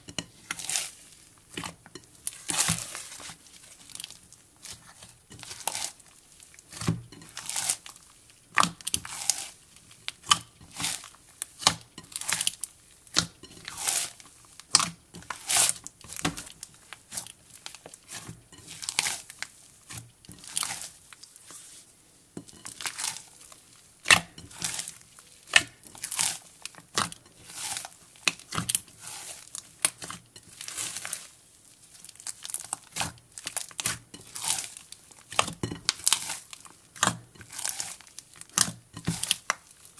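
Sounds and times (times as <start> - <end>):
slime squishing and crackling: 0.1 - 21.5, 22.5 - 39.9.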